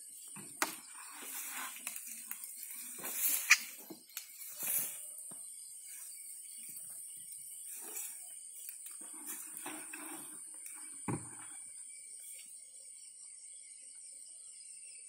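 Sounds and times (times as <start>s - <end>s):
bamboo sticks and leaves rustling: 0.0s - 12.6s.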